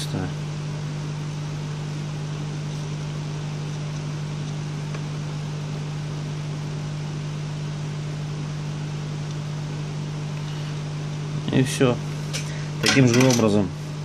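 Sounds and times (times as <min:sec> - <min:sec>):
steady low hum with hiss: 0:00.0 - 0:14.0.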